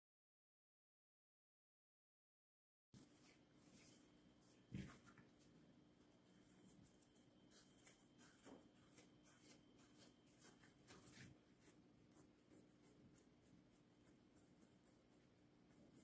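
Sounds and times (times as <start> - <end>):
faint steady hum: 3.0 - 16.0
hands rolling dough: 3.0 - 16.0.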